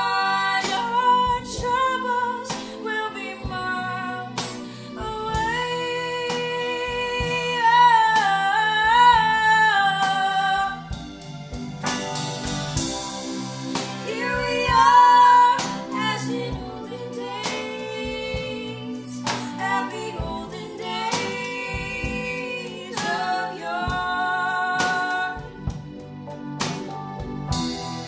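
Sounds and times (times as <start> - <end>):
women singing in harmony: 0.0 - 11.0, 13.8 - 25.8
electric keyboards: 0.0 - 28.0.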